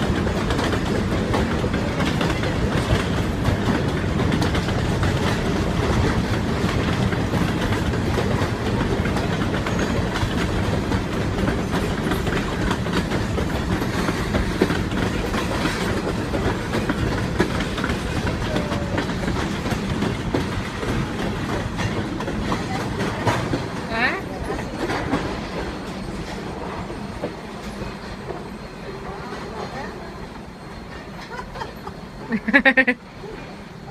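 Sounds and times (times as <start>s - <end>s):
wheels clicking over rail joints: 0.0s - 32.3s
freight train rolling past: 0.0s - 33.9s.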